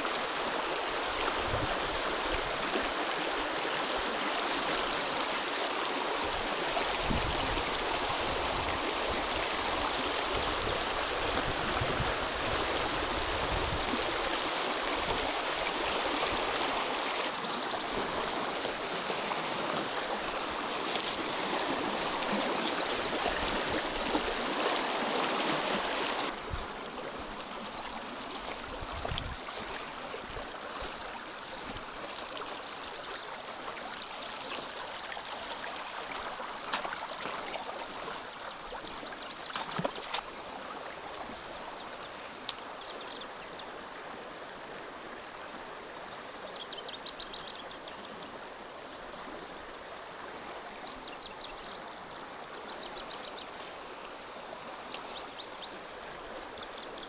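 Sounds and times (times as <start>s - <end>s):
stream water rushing: 0.0s - 47.3s, 48.0s - 57.0s.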